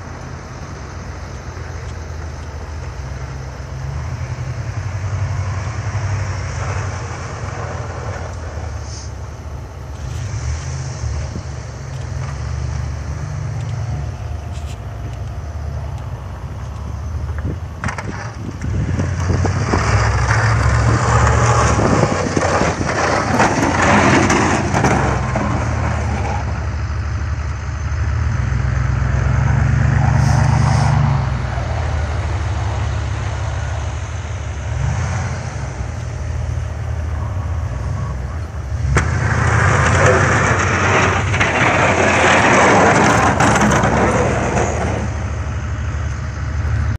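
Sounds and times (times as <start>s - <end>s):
truck engine under load: 0.0s - 46.9s
plow blade scraping snow: 2.6s - 15.1s, 17.8s - 46.9s.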